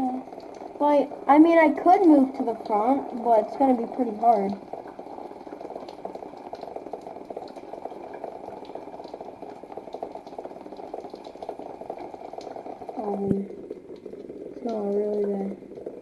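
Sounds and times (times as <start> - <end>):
rain on wet cardboard: 0.0 - 16.0.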